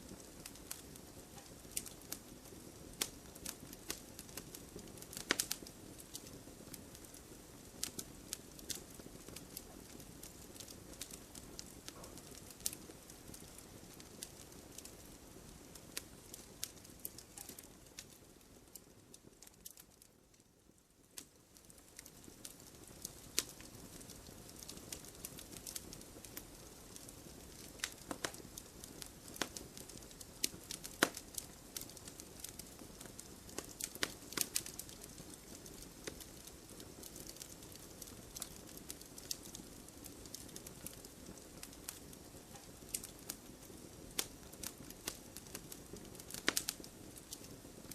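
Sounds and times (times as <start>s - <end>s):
fire flames hissing: 0.0s - 18.5s, 21.2s - 47.9s
fire crackling and popping: 0.0s - 47.9s.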